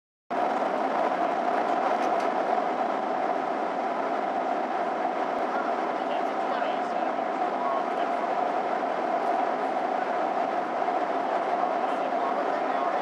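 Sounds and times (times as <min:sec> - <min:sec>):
airliner cabin engine drone: 0:00.4 - 0:13.0.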